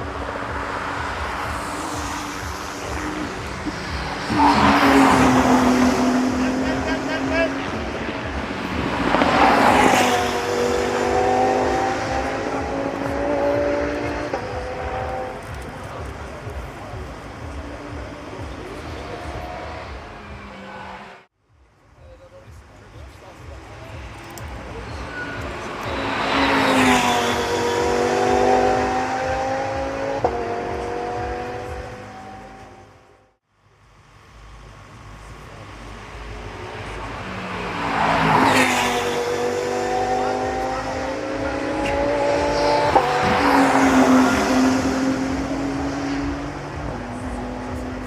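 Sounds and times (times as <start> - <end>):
race car passing at speed: 0.0 - 21.3, 23.2 - 33.4, 35.6 - 48.0.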